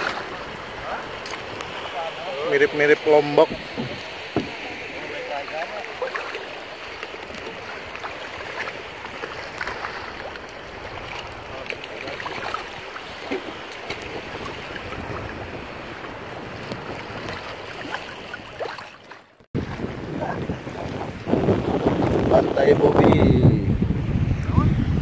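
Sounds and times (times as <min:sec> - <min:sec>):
sea water lapping and splashing: 0:00.0 - 0:23.4
wind: 0:00.0 - 0:25.0.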